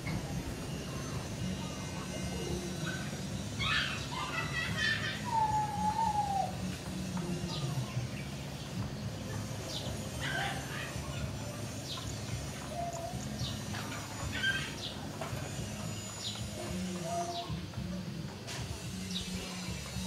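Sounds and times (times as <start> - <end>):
birds chirping: 0.0 - 18.2, 18.8 - 20.0.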